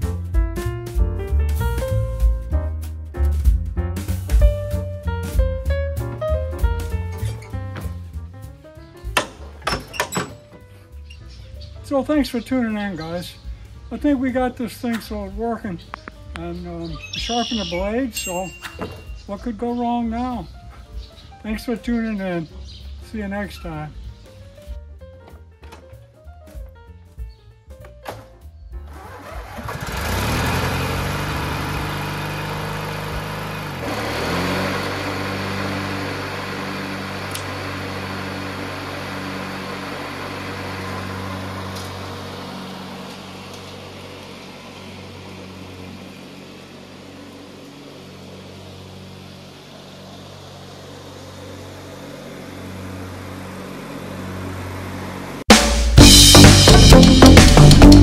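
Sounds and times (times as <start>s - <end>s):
lawnmower engine: 6.1s - 24.0s, 28.9s - 58.0s.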